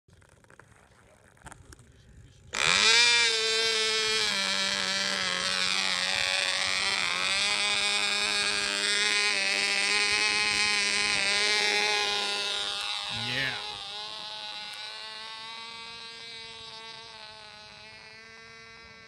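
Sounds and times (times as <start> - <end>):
model engine buzzing at high speed: 2.4 - 19.0.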